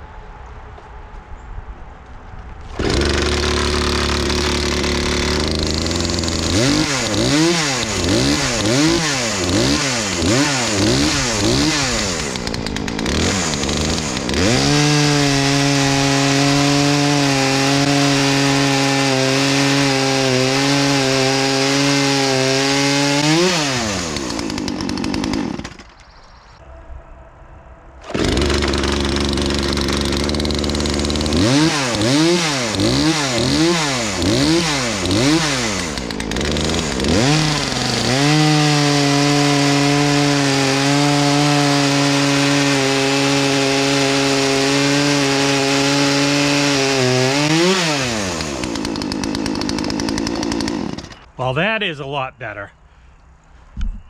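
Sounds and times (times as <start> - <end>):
chainsaw engine revving: 2.7 - 26.0, 28.0 - 51.3.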